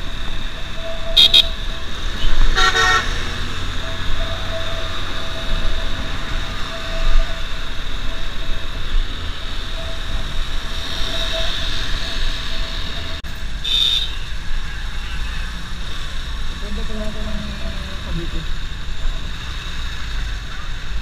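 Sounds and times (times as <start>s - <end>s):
wind rush and road noise: 0.0s - 21.0s.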